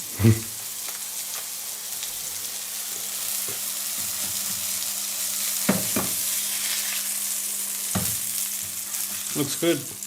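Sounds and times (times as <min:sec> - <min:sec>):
patties sizzling in a frying pan: 0:00.0 - 0:10.0.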